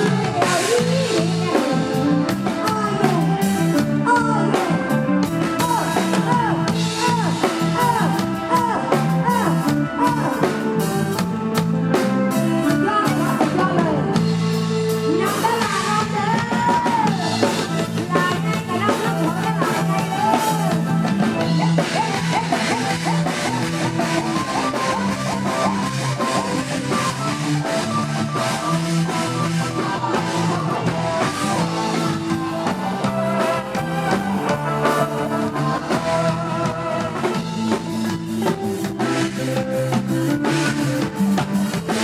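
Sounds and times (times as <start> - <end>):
bass and guitar: 0.0 - 42.0
drum kit beat: 0.0 - 42.0
person singing: 0.0 - 42.0.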